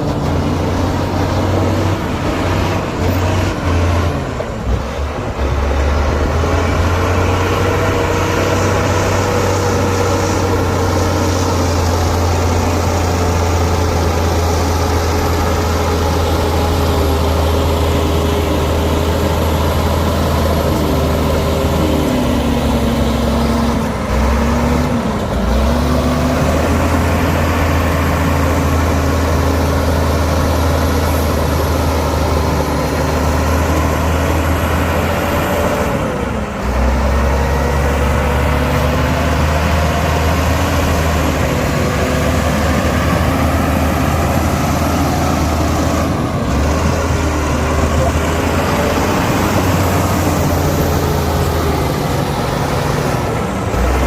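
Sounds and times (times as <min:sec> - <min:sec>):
diesel earthmoving machinery: 0:00.0 - 0:54.0.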